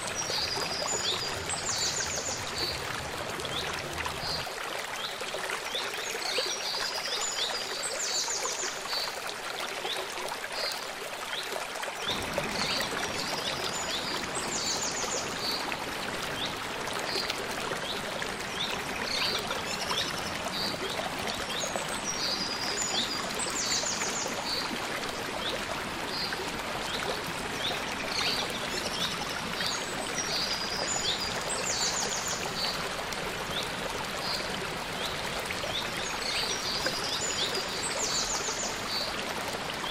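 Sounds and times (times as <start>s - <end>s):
stream over rocks: 0.0s - 39.9s.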